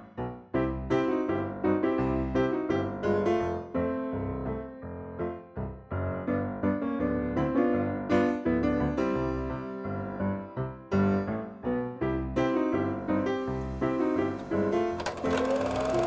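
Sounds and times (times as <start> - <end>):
jaunty piano music: 0.0 - 16.0.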